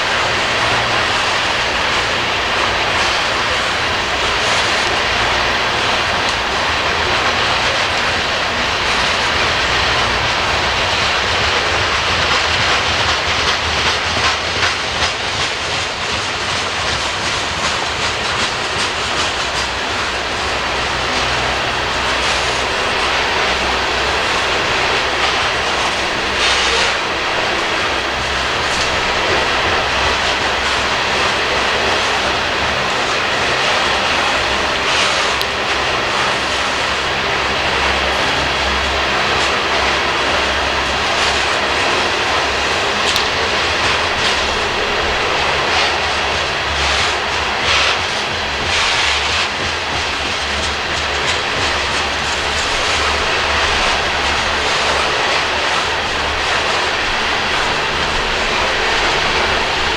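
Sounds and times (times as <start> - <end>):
freight train rumbling past: 0.0 - 59.9
wheels clicking over rails: 0.0 - 59.9.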